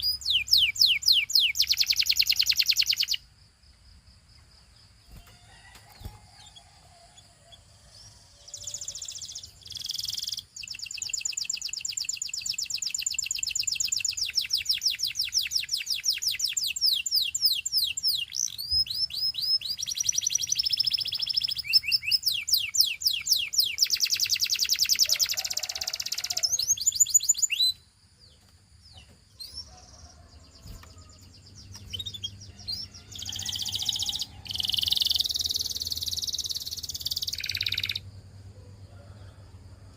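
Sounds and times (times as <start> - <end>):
canary singing trills: 0.0 - 3.2, 5.1 - 38.3
faint chirps: 0.0 - 39.9.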